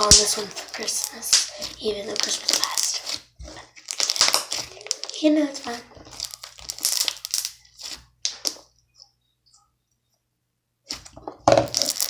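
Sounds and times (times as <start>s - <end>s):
slime squishing and popping: 0.0s - 8.7s, 10.9s - 12.0s.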